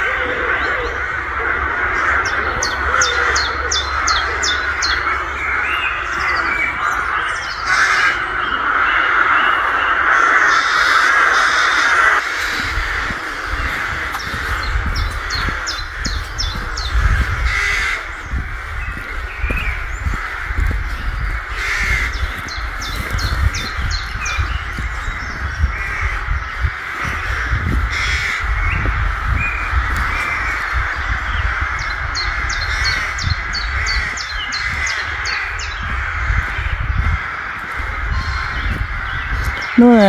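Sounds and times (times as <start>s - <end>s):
crows cawing: 0.0s - 39.8s.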